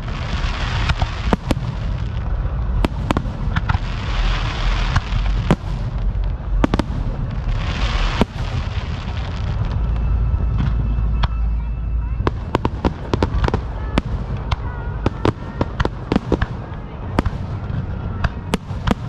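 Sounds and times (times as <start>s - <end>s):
fireworks crackling hiss: 0.0s - 11.2s, 12.0s - 19.0s
fireworks bangs: 0.0s - 19.0s
low rumble: 0.0s - 19.0s.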